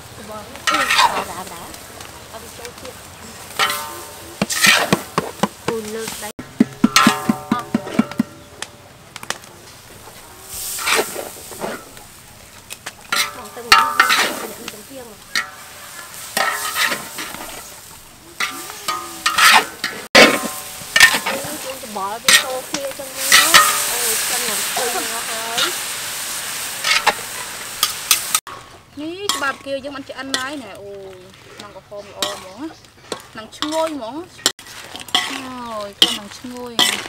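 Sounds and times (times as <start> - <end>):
frying sizzle: 0.0 - 37.0
spatula scraping a wok: 0.3 - 2.1, 2.8 - 8.5, 9.7 - 37.0.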